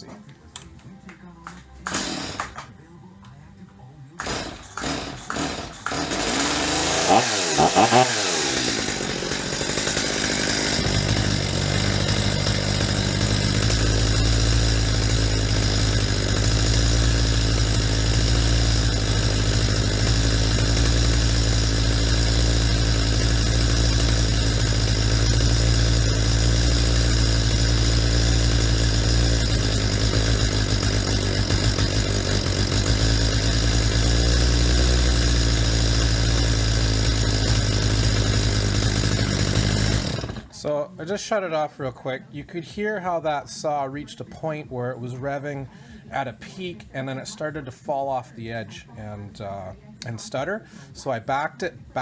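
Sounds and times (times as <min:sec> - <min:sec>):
chainsaw starting and idling: 0:00.0 - 0:02.8, 0:04.2 - 0:41.8, 0:49.1 - 0:51.8.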